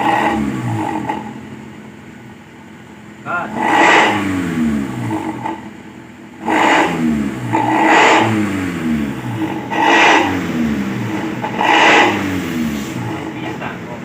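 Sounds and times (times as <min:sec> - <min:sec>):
engine revving with growling exhaust: 0:00.0 - 0:02.2, 0:03.2 - 0:14.0.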